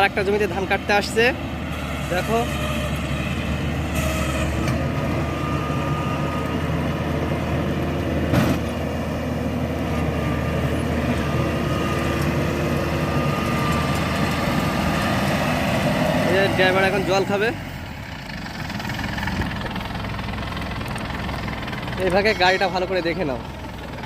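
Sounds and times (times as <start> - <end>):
harvesting machine engine droning: 0.0 - 24.0.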